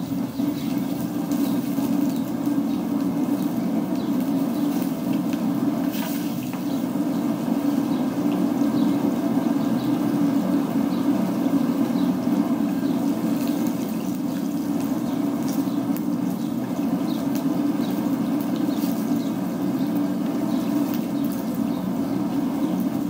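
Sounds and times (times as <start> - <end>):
faint crackles: 0.2 - 23.0.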